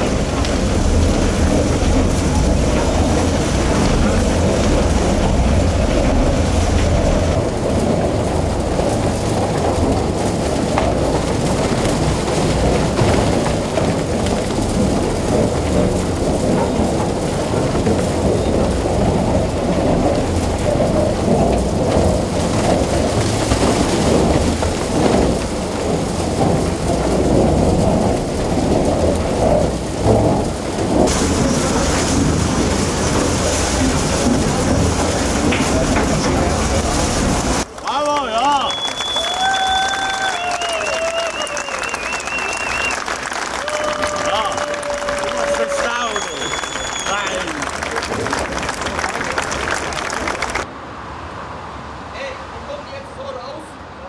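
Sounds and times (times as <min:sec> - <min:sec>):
tunnel boring machine grinding rock: 0:00.0 - 0:50.6
water hoses spraying: 0:00.0 - 0:50.7.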